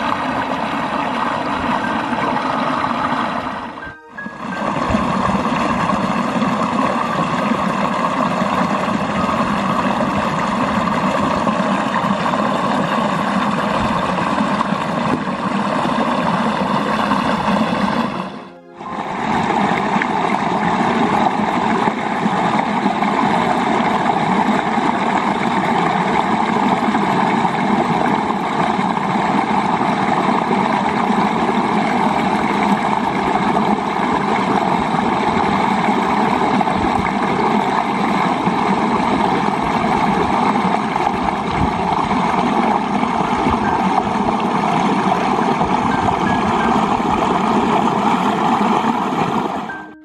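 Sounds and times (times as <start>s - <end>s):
water rushing in a stream: 0.0s - 50.0s.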